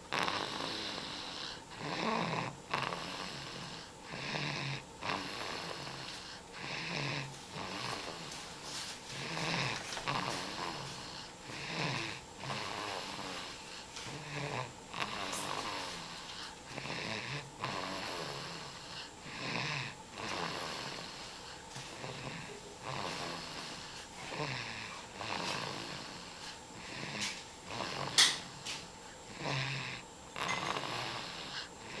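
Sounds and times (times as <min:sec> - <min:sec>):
rasping snores: 0:00.0 - 0:08.5, 0:09.1 - 0:32.0.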